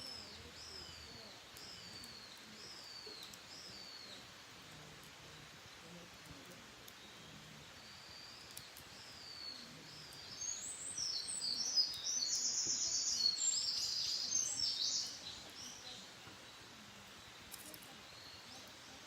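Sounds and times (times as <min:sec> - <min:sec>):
songbird trilling song: 0:00.0 - 0:05.6, 0:06.4 - 0:19.0.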